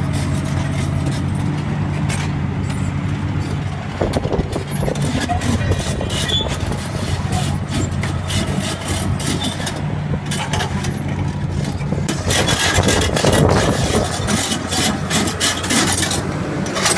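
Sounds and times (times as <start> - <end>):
excavator diesel engine humming: 0.0 - 16.9
excavator tracks clanking: 0.0 - 16.9.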